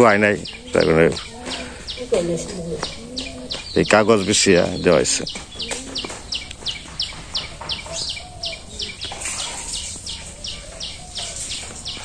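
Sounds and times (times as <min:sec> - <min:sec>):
fainter lower wavering calls: 0:00.3 - 0:12.0.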